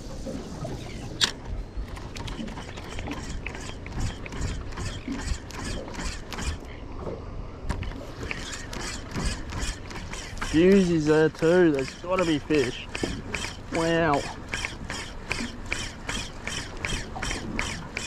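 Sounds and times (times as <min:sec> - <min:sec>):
fishing reel cranking clicks: 0:01.2 - 0:06.8, 0:08.2 - 0:18.0.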